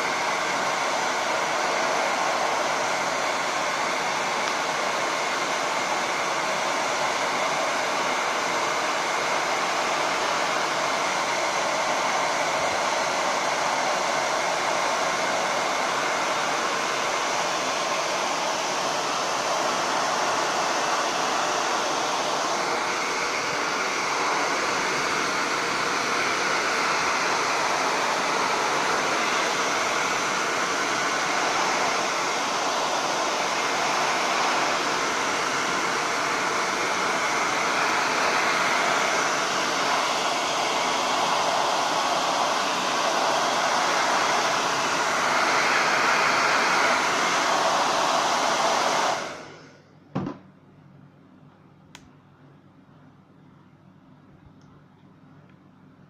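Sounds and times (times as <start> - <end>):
hair dryer running: 0.0 - 50.4.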